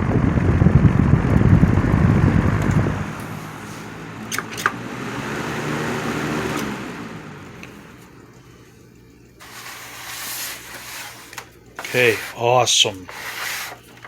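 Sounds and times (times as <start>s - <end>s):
box fan motor hum and whoosh: 0.0s - 14.0s.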